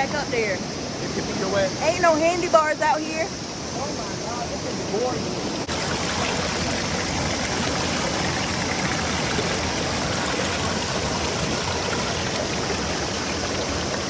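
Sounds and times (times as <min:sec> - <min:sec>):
flowing stream water: 0:00.0 - 0:14.0.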